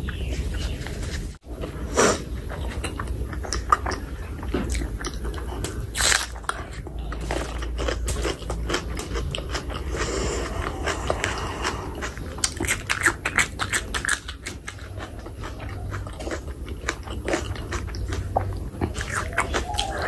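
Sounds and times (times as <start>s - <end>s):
chewing and mouth clicks: 2.5s - 20.0s.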